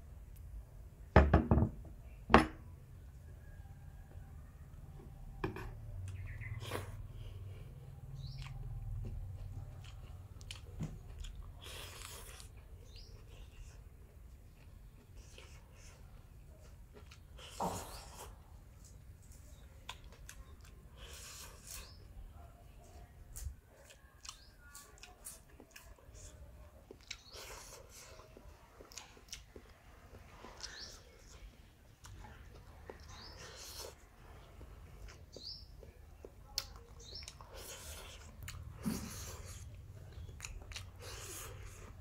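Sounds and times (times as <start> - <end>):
soft chewing and mouth clicks: 3.0 - 42.0.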